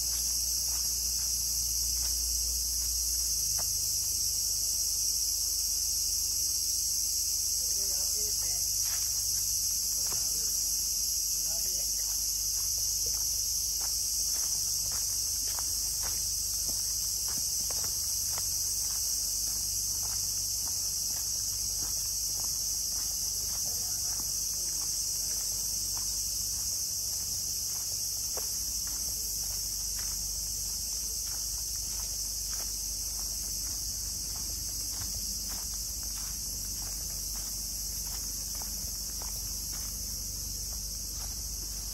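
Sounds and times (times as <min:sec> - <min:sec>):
faint footsteps: 0:00.0 - 0:04.2, 0:08.1 - 0:41.9
high-pitched insect chorus: 0:00.0 - 0:41.9.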